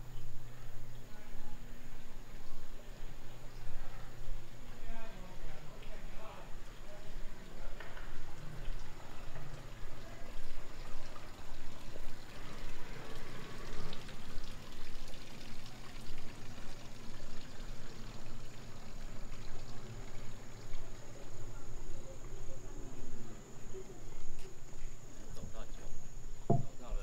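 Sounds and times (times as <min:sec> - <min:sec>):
water running and trickling: 0:00.0 - 0:27.0.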